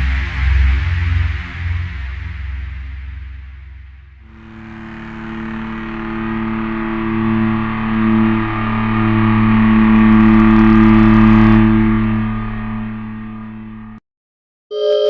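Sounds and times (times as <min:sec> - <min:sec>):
low distorted drone: 0:00.0 - 0:14.0.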